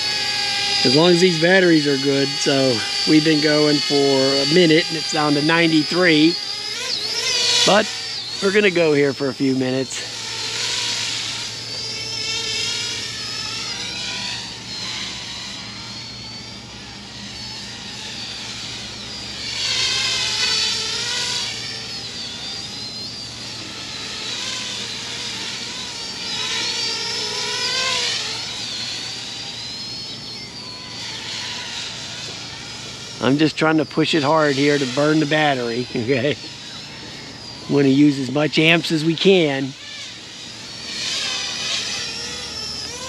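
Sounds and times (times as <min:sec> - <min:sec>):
drone propellers whining: 0:00.0 - 0:43.0.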